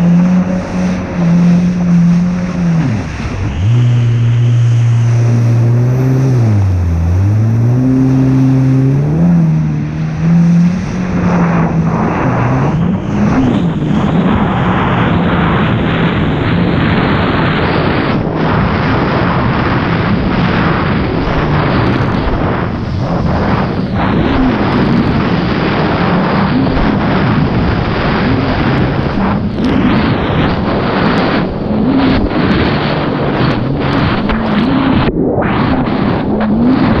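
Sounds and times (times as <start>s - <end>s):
jet ski engine drone: 0.0s - 37.0s
wind and spray on microphone: 0.0s - 37.0s.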